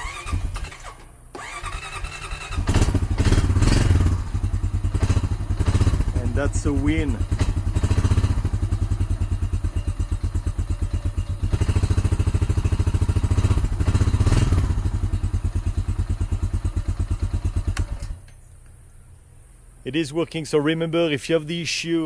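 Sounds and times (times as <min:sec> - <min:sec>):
atv engine idling: 0:00.0 - 0:21.9.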